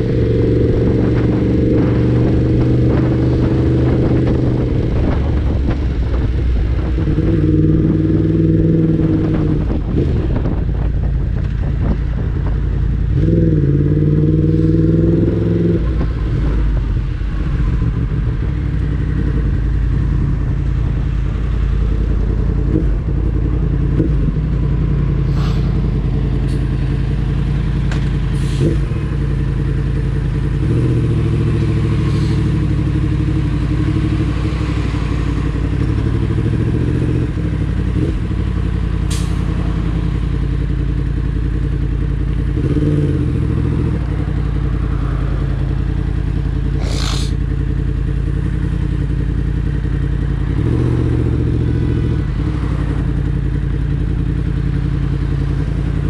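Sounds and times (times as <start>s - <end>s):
motorcycle engine at low revs: 0.0s - 56.0s.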